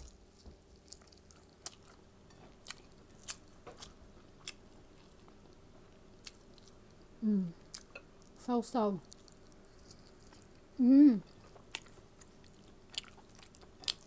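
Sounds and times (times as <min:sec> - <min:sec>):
person chewing food: 0:00.0 - 0:08.4, 0:09.0 - 0:14.0.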